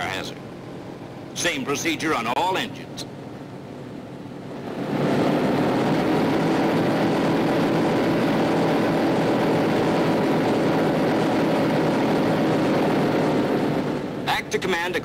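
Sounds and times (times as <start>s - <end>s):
radial aircraft engines droning: 0.0s - 15.0s.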